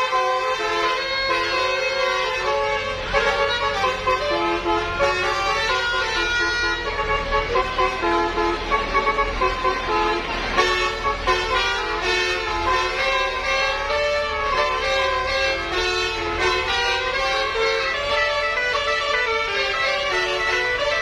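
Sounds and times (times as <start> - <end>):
multi-tone bus horn tune: 0.0 - 21.0.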